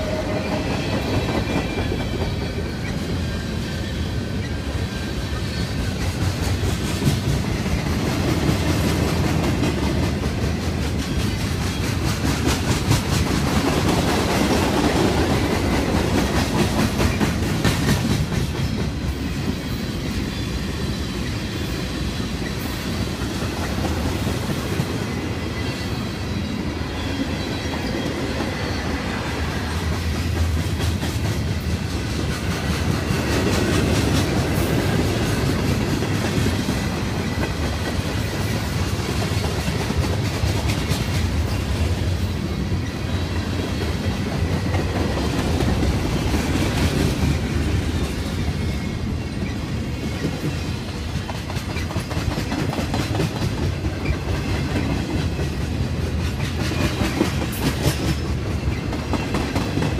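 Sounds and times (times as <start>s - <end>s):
rail clicks: 0.0s - 59.9s.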